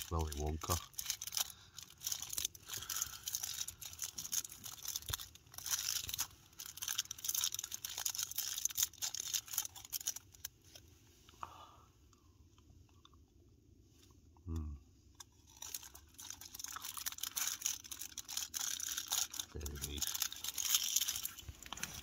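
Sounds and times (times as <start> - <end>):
close crinkling and crunching: 0.0 - 10.8, 15.1 - 22.0.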